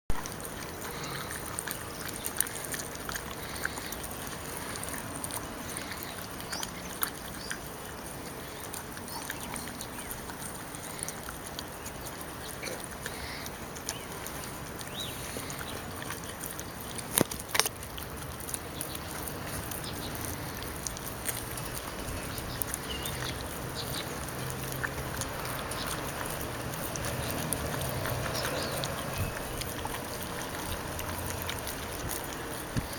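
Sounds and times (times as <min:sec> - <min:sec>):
dogs lapping and chewing: 0:00.1 - 0:32.9.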